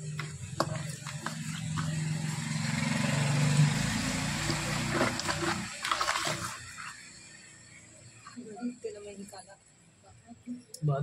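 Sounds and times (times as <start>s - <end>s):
engine humming: 0.0s - 9.5s.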